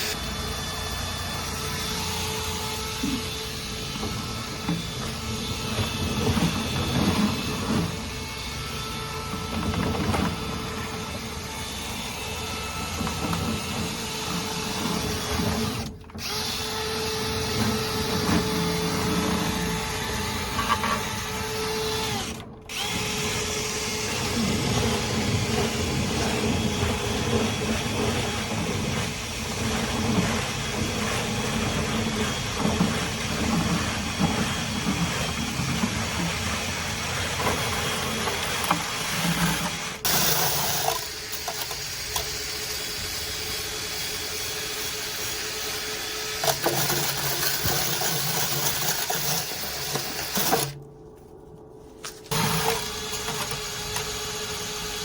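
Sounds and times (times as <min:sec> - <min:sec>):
power drill running: 0:00.0 - 0:50.8, 0:52.0 - 0:55.0.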